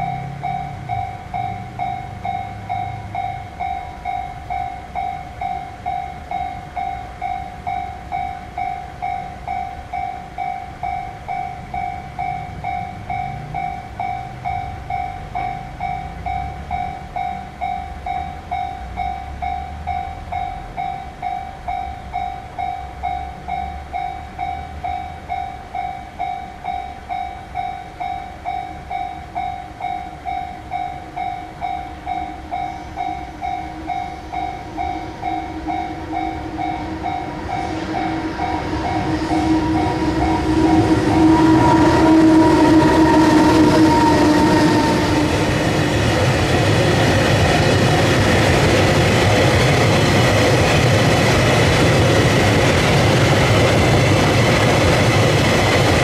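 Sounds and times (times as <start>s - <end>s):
railroad crossing bell ringing: 0.0s - 56.0s
train locomotive hum: 0.0s - 56.0s.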